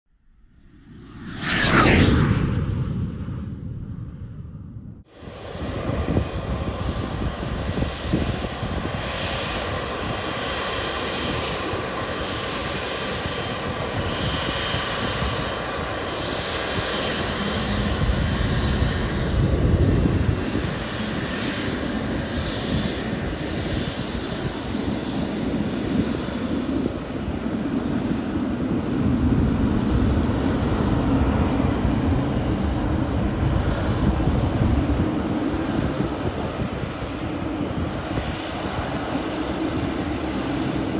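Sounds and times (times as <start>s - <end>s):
jet engine rumble: 0.1s - 40.9s
jet engine fan whine: 0.4s - 40.9s.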